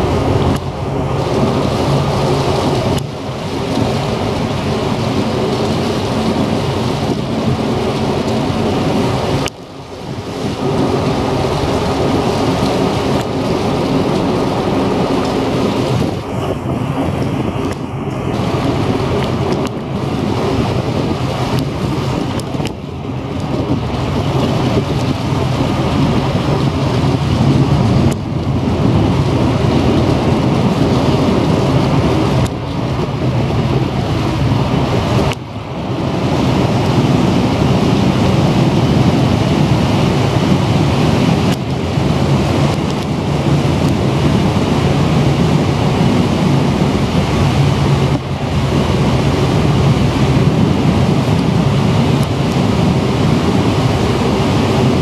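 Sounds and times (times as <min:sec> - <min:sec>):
rushing water: 0:00.0 - 0:55.0
ship engine droning: 0:00.0 - 0:55.0
wind buffeting microphone: 0:00.0 - 0:55.0.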